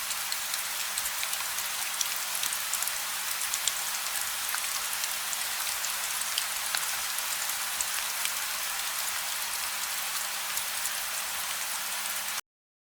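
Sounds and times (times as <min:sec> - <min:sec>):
gentle rain hissing: 0:00.0 - 0:12.4.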